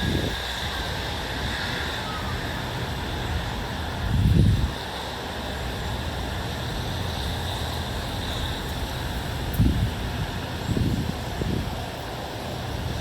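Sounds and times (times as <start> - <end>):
wind buffeting microphone: 0.0 - 13.0
wind hiss: 0.0 - 13.0.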